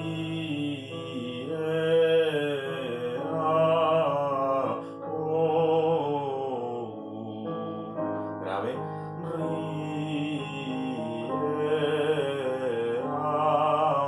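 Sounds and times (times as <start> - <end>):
man singing vocal exercise: 0.0 - 14.0
sustained keyboard accompaniment: 0.0 - 14.0.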